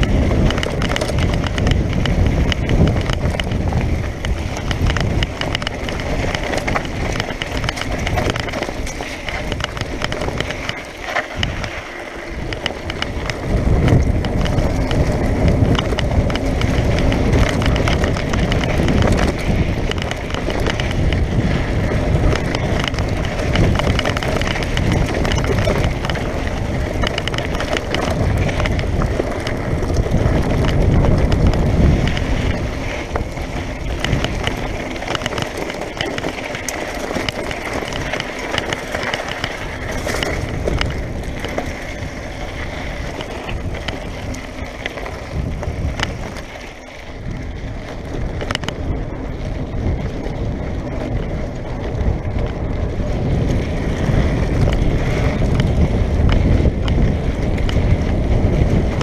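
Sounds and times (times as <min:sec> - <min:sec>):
bike rattling: 0:00.0 - 0:59.0
tyres crunching on dirt: 0:00.0 - 0:59.0
wind rumbling on microphone: 0:00.0 - 0:59.0.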